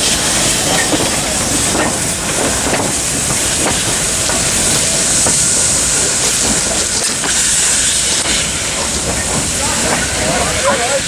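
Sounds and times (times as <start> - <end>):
steam hissing: 0.0 - 11.0
train wheels clicking and knocking: 0.0 - 11.0.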